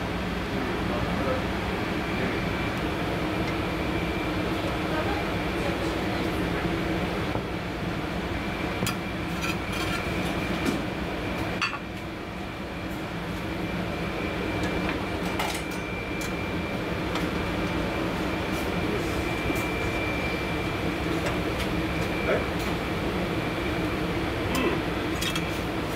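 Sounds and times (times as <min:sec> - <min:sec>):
kitchen equipment hum: 0:00.0 - 0:25.9.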